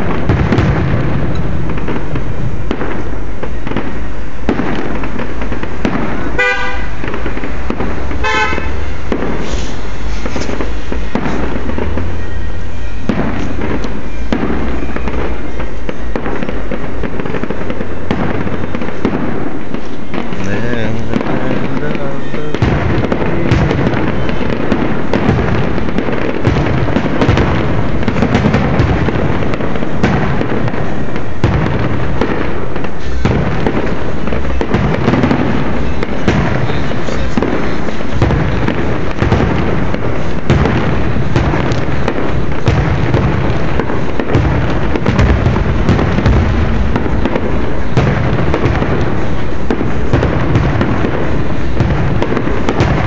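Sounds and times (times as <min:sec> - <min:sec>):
firework shells bursting: 0:00.0 - 0:53.0.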